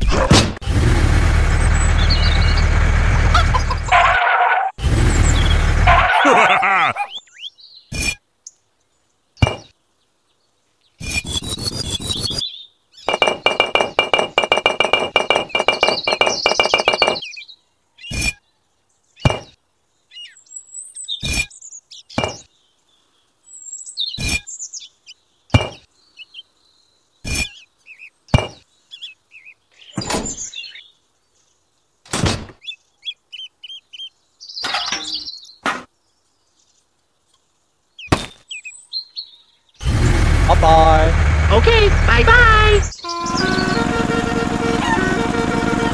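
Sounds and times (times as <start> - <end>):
faint birds chirping: 1.4 - 45.9.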